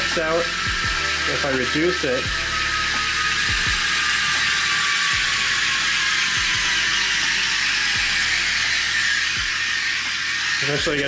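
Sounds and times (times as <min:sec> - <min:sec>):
robot motors whirring: 0:00.0 - 0:11.0.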